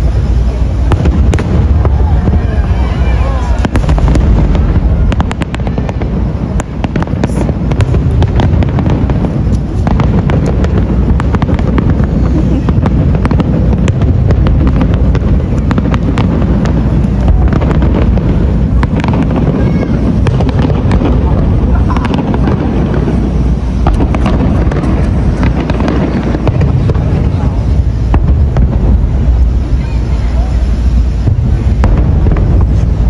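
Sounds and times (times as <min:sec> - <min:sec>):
deep rumble of explosions: 0:00.0 - 0:33.0
firework shells bursting: 0:00.0 - 0:33.0
sharp cracks and crackles: 0:00.0 - 0:33.0.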